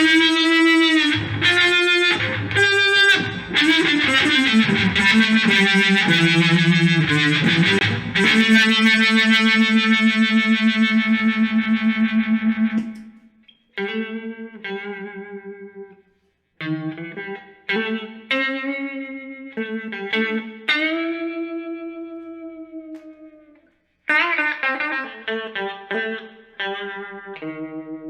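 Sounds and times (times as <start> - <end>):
electric guitar chords with throbbing effect: 0.0 - 16.0, 16.6 - 28.0.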